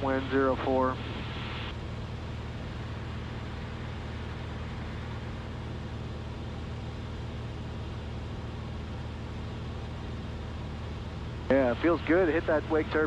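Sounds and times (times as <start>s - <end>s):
airplane engine and propeller droning: 0.0s - 13.0s.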